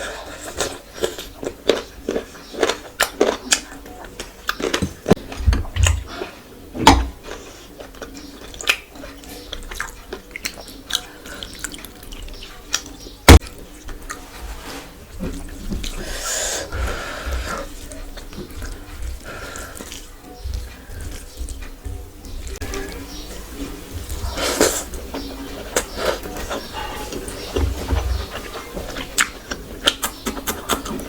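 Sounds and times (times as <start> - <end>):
wet chewing and smacking: 0.0 - 14.3, 15.1 - 23.4, 24.0 - 31.0.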